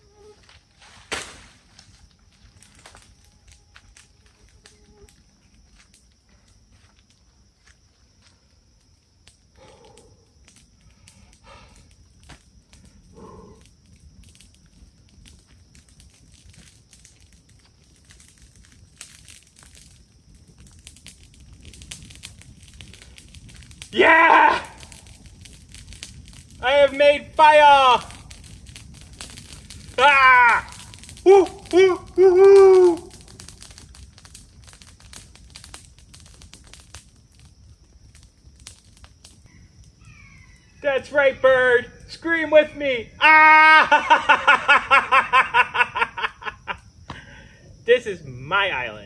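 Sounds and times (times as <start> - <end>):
burning brush crackling and popping: 0.0 - 49.0.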